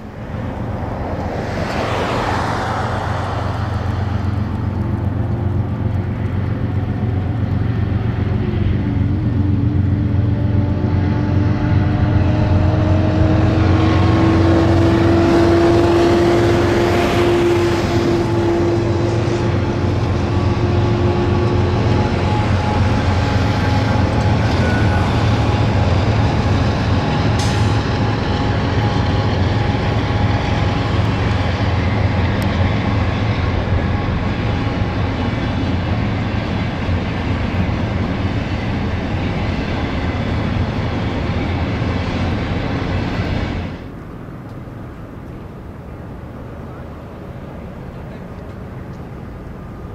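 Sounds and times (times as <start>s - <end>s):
locomotive engine drone: 0.0s - 49.9s
train wheels rumbling on rails: 0.0s - 49.9s.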